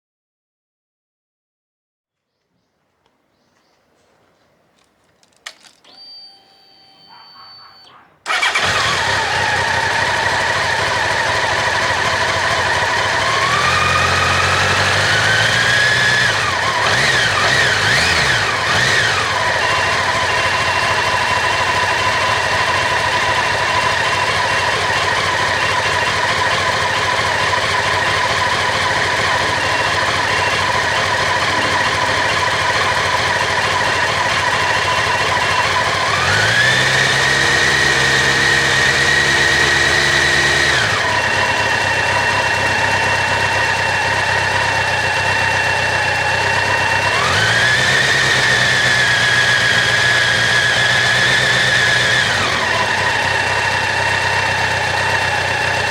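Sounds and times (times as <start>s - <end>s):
motorcycle engine idling: 4.8s - 55.9s.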